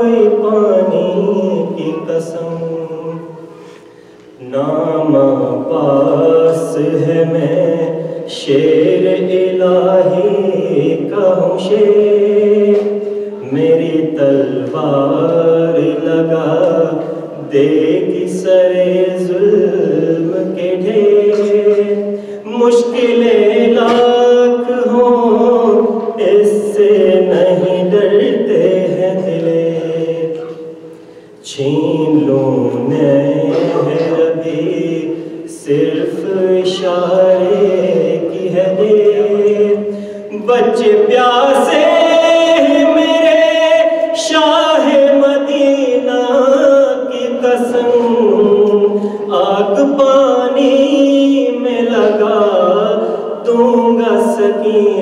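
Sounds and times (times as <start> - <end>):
man singing unaccompanied: 0.0 - 3.6, 4.4 - 55.0.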